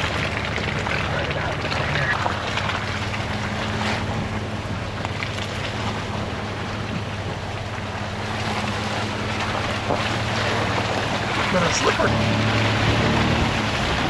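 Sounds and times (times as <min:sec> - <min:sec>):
engine running at low pace: 0:00.0 - 0:14.0.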